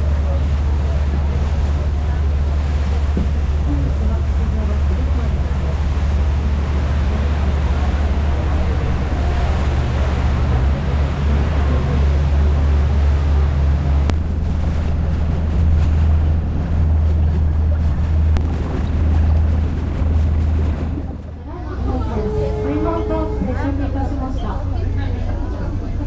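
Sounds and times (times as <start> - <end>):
boat engine rumbling: 0.0 - 26.0
water rushing past hull: 0.0 - 26.0
wind on microphone: 0.0 - 26.0.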